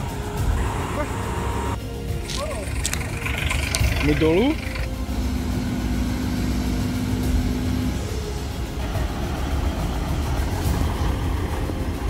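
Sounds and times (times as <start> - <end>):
diesel engine low rumble: 0.0 - 12.0
steady hum: 0.0 - 12.0.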